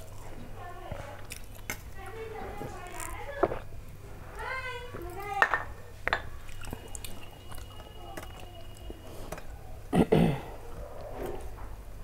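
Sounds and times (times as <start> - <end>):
soft chewing: 0.0 - 11.9.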